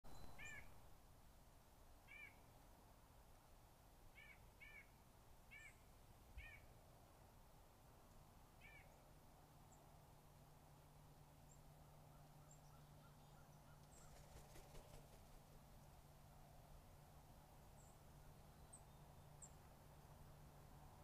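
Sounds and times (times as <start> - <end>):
low steady hum: 0.1 - 21.0.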